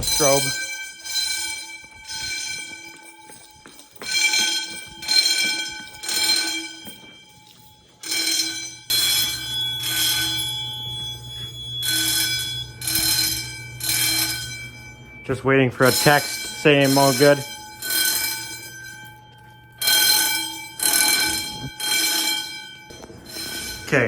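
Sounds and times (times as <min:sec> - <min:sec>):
fire alarm bells ringing: 0:00.0 - 0:24.0.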